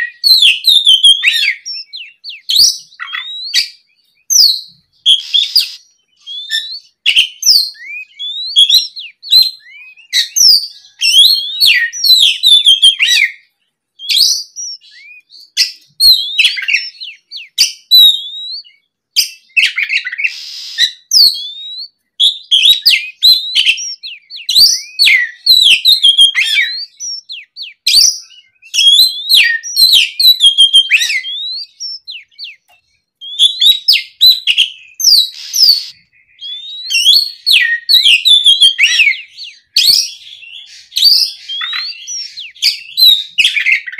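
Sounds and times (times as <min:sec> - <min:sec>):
bird singing: 0:00.0 - 0:43.9.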